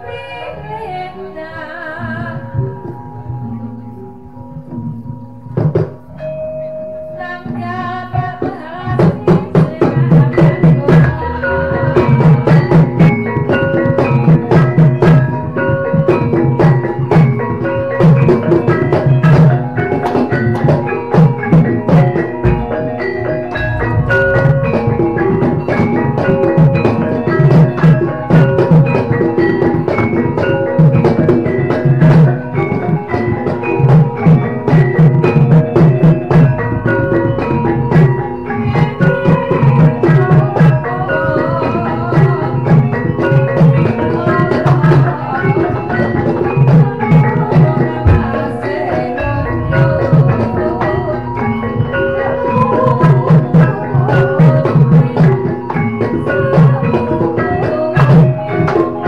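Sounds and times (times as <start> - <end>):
struck metallophones melody: 0.0 - 59.0
rhythmic drums: 2.2 - 59.0.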